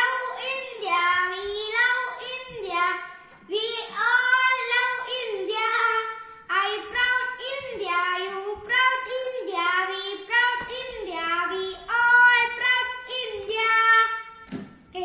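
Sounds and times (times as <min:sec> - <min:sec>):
child singing: 0:00.0 - 0:14.3.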